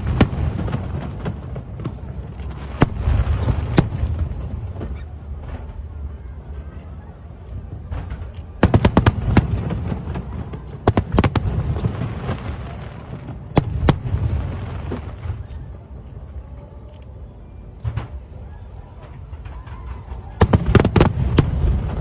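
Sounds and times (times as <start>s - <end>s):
fireworks bangs: 0.0s - 6.8s, 7.5s - 16.3s, 17.8s - 22.0s
distant fireworks rumble: 0.0s - 22.0s.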